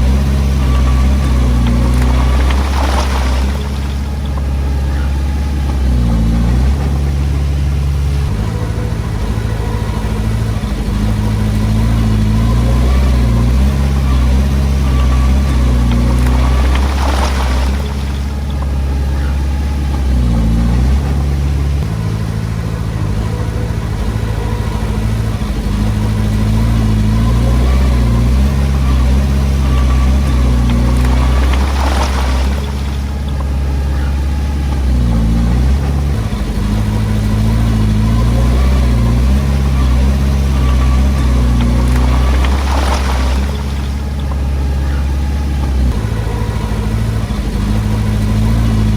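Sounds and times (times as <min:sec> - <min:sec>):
bulldozer diesel engine under load: 0:00.0 - 0:48.9.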